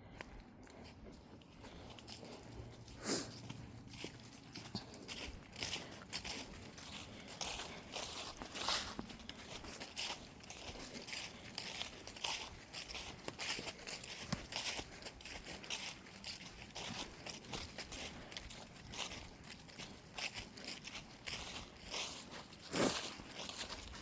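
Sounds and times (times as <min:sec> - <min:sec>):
footsteps crunching on trail: 0:00.0 - 0:24.0.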